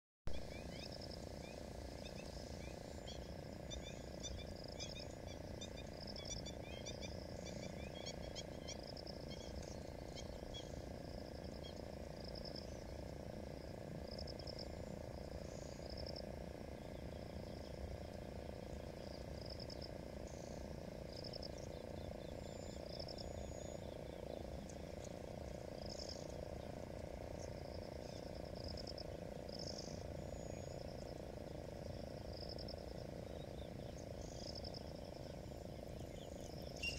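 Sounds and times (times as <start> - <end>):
steady low rumble: 0.3 - 36.9.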